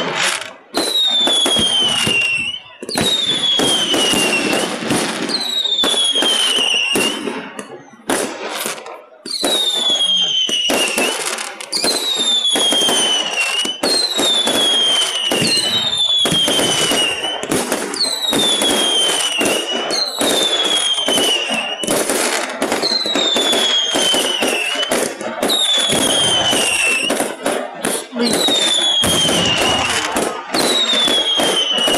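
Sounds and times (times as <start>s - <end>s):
firework bangs: 0.0s - 31.9s
fireworks popping and crackling: 0.0s - 31.9s
whistling fireworks: 0.0s - 31.9s.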